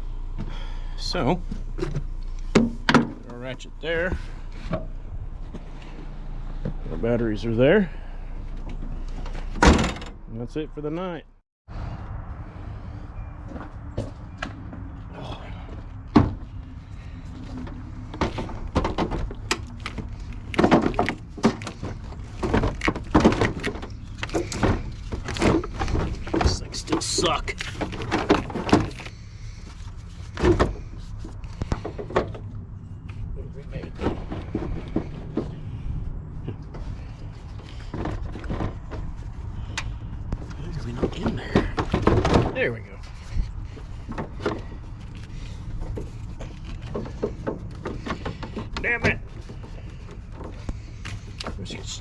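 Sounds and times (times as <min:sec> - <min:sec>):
steady low rumble: 0:00.0 - 0:52.0
knocks and clunks: 0:01.4 - 0:07.3, 0:08.4 - 0:10.3, 0:13.4 - 0:52.0.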